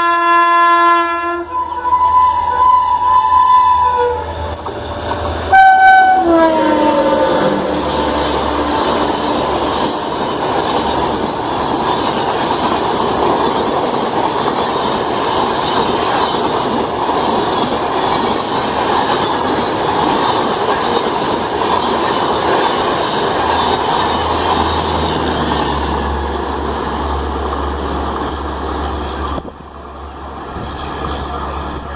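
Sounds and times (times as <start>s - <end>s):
train wheels rushing on rail: 0.0s - 31.9s.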